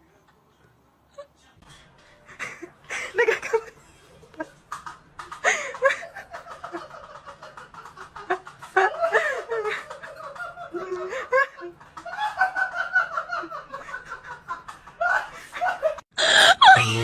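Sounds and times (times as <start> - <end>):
person laughing and snickering: 2.4 - 17.0.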